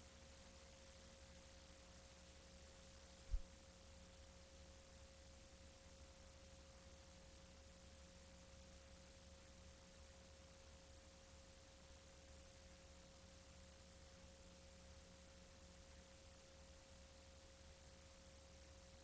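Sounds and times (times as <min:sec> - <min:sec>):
faint electrical hum: 0:00.0 - 0:19.0
light tape hiss: 0:00.0 - 0:19.0.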